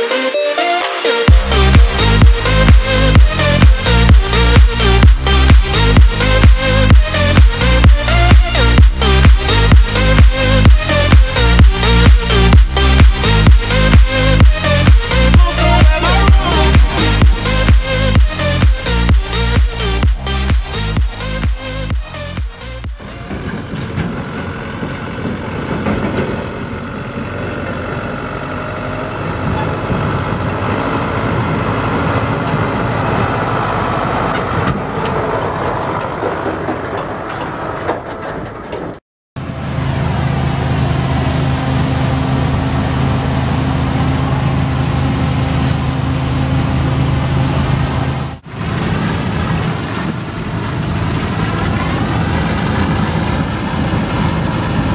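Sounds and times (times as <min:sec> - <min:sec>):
diesel engines running: 0:00.0 - 0:54.9.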